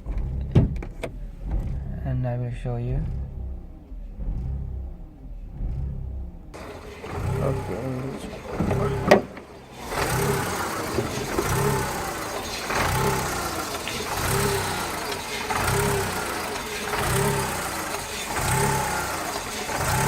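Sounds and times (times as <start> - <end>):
car engine idling unevenly: 0.0 - 20.0.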